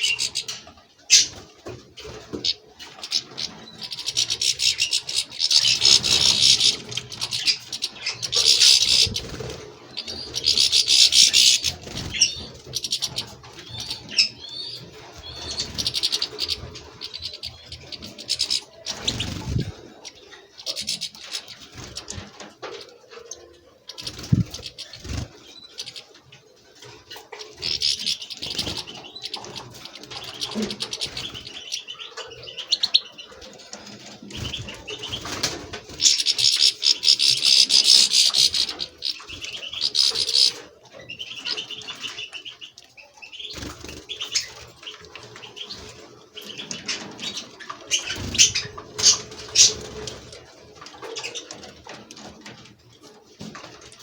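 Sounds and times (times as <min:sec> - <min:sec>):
finches twittering: 0:00.0 - 0:01.4, 0:02.0 - 0:22.3, 0:23.4 - 0:26.1, 0:27.0 - 0:33.4, 0:34.0 - 0:50.2.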